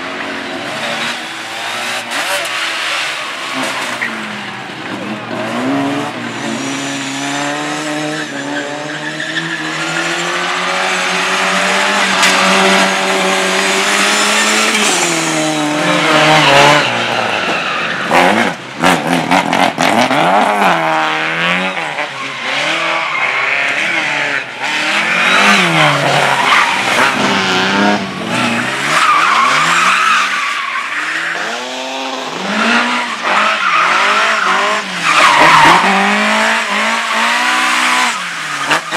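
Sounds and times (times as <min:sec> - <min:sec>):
tyres squealing on asphalt: 0:00.2 - 0:38.9
race car engine revving: 0:00.4 - 0:38.9.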